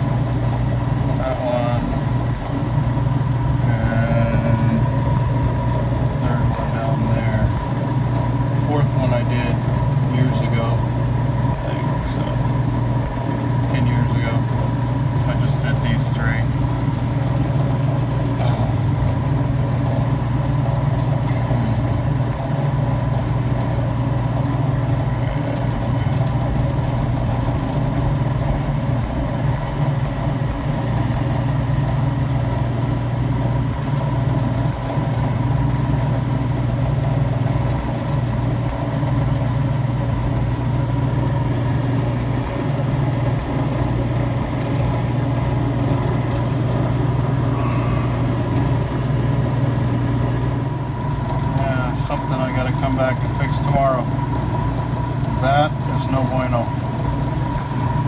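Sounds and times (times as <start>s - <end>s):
vacuum pump humming: 0.0s - 58.0s.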